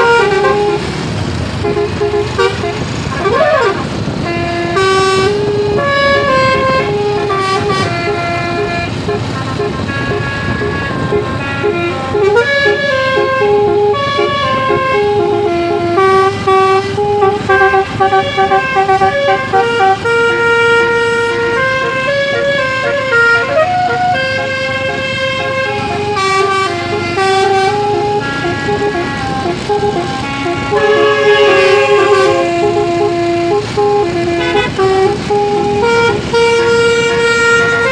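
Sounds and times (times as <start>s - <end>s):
bus musical horn melody: 0.0s - 37.9s.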